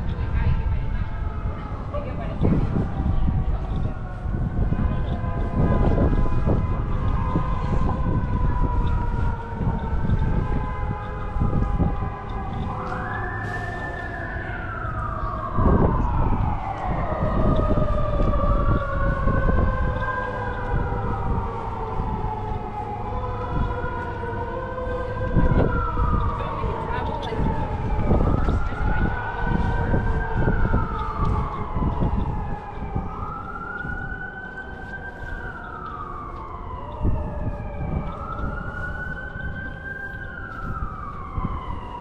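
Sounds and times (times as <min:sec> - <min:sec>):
low street rumble: 0:00.0 - 0:42.0
sirens wailing: 0:00.0 - 0:42.0.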